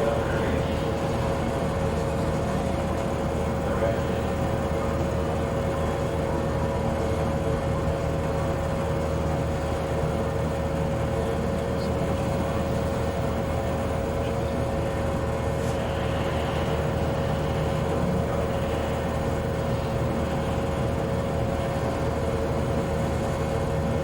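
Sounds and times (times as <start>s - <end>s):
bowling alley room noise: 0.0s - 24.0s
constant hum-like tone: 0.0s - 24.0s.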